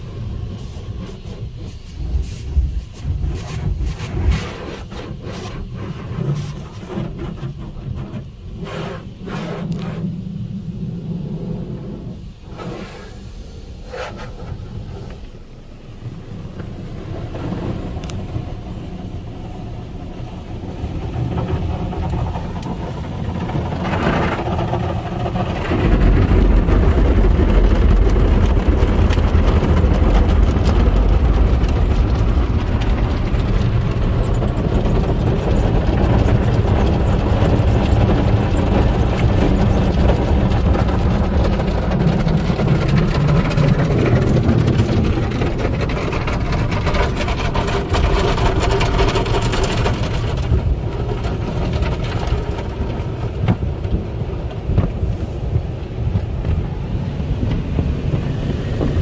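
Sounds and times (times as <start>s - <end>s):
car wash cloths scrubbing: 0.0s - 59.0s
low rumble: 0.0s - 59.0s
water spraying: 0.0s - 59.0s.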